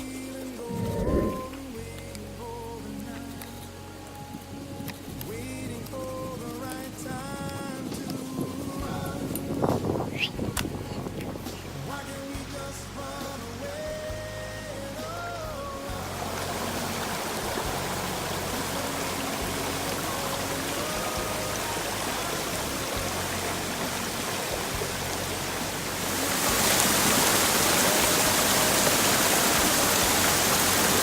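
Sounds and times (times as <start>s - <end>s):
faint background music: 0.0s - 31.0s
water rushing: 0.0s - 31.0s.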